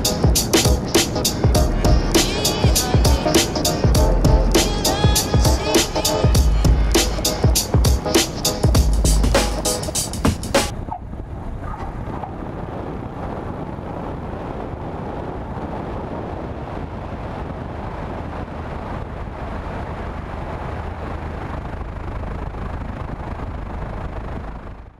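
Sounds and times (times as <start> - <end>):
wind engine and tyre rushing: 0.0 - 24.9.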